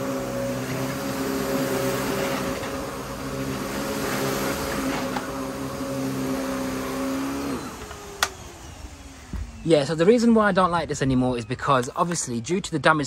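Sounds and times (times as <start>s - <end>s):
upright vacuum cleaner running: 0.0s - 12.4s.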